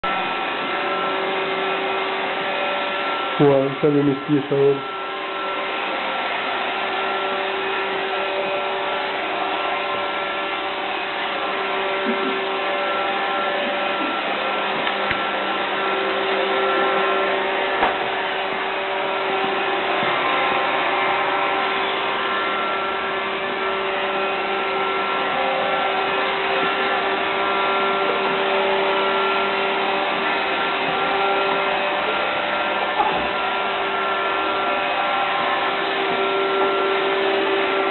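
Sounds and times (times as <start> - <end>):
robot vacuum whirring: 0.1 - 37.9.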